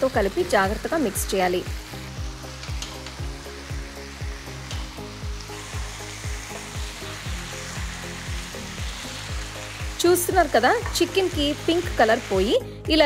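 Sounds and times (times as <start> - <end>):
chicken sizzling in oil: 0.0 - 12.7
background music with steady beat: 0.0 - 13.0.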